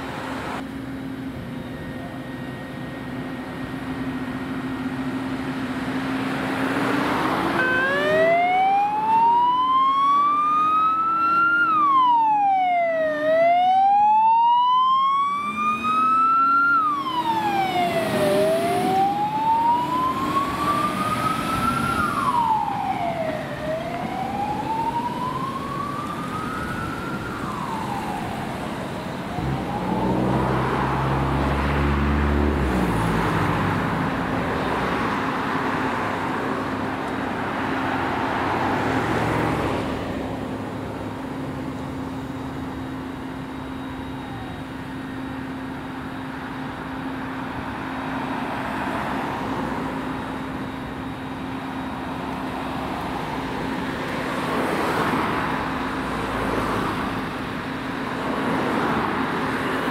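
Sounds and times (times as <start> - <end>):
engine and road noise: 0.0 - 59.9
fire truck siren wailing: 1.2 - 59.9.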